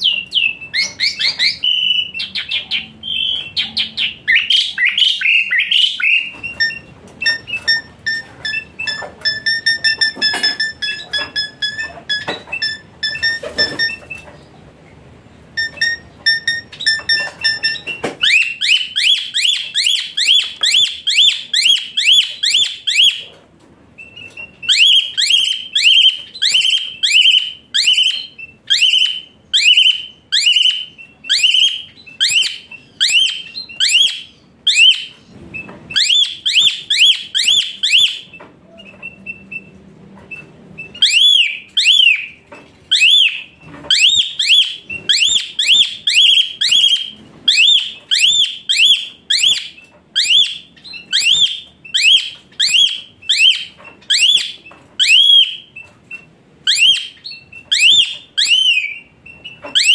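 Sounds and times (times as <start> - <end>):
starling whistling calls: 0.0 - 14.0, 15.6 - 23.2, 24.0 - 39.7, 40.8 - 59.9.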